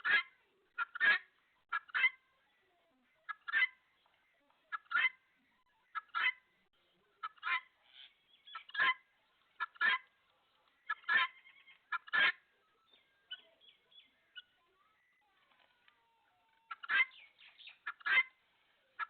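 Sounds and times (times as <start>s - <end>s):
chickens calling: 0.0s - 19.0s
faint chirps: 0.0s - 19.0s.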